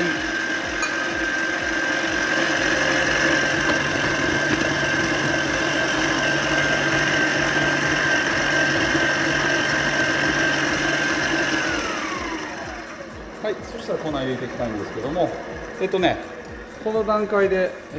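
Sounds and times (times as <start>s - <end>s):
electric stand mixer running: 0.0s - 17.9s.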